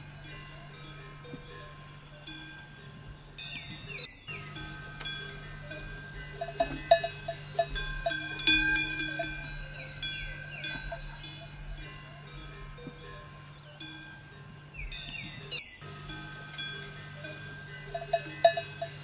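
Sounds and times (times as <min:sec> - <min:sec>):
metal bells clanking and ringing: 0:00.0 - 0:19.0.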